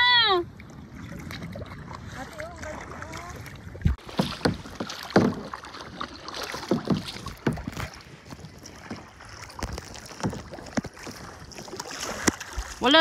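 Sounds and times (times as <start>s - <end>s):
kayak paddle splashing in water: 0.0s - 13.0s.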